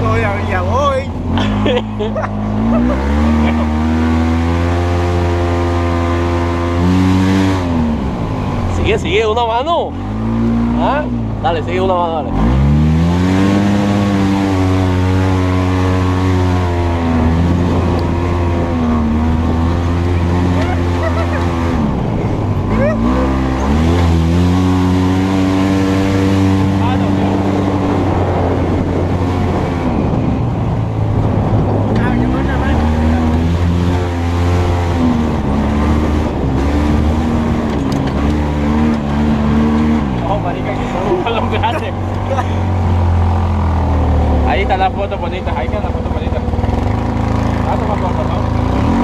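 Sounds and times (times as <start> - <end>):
vehicle engine at high revs: 0.0 - 49.0.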